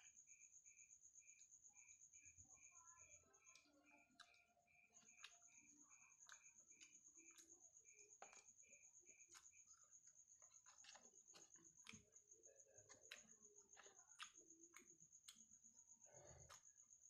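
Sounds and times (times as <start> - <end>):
night insects chirping: 0.0 - 17.0
chewing clicks: 2.2 - 17.0.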